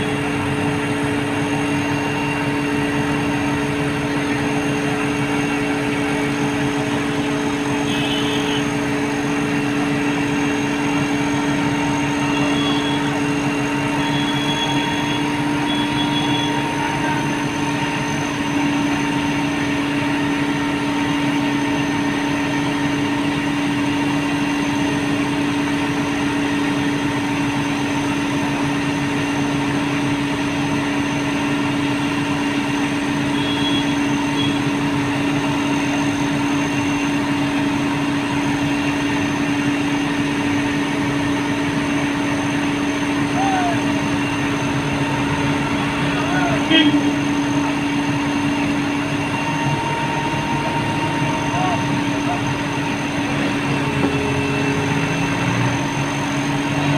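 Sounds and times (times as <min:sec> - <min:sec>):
diesel engine humming: 0:00.0 - 0:56.9.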